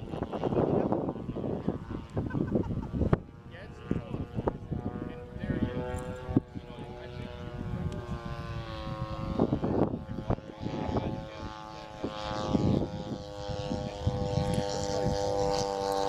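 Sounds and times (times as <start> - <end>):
model airplane engine running: 0.0 - 16.0.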